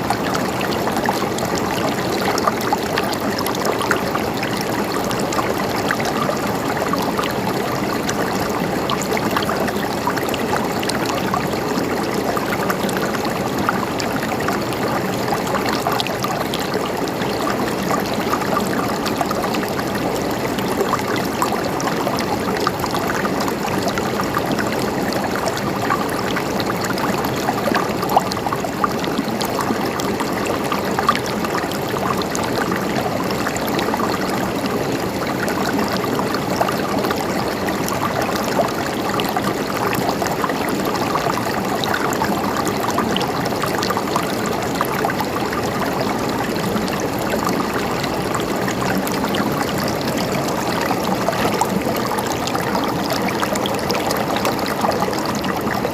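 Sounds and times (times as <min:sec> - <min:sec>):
water gurgling and trickling: 0:00.0 - 0:55.9
water splashes and drips: 0:00.0 - 0:55.9.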